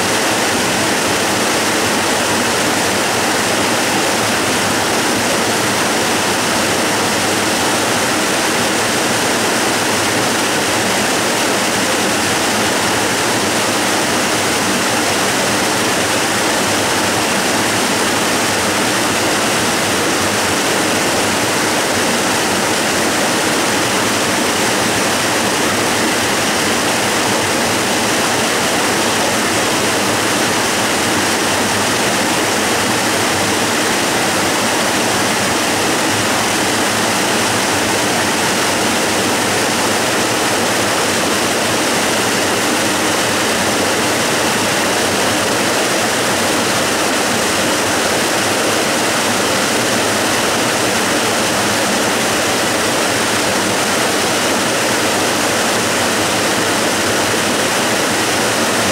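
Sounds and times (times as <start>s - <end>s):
waterfall roaring: 0.0s - 58.9s.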